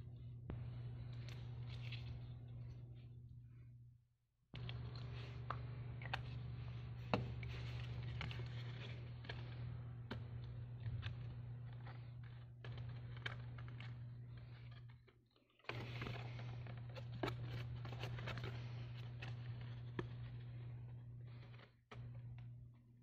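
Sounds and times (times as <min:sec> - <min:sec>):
steady low hum: 0:00.0 - 0:23.0
paper rustling and crackling: 0:00.6 - 0:02.8, 0:04.6 - 0:22.5.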